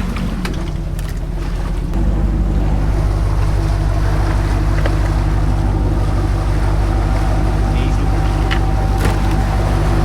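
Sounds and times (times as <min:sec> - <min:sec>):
boat motor running: 0:00.0 - 0:10.0
water noise: 0:00.0 - 0:10.0
wind: 0:00.0 - 0:10.0.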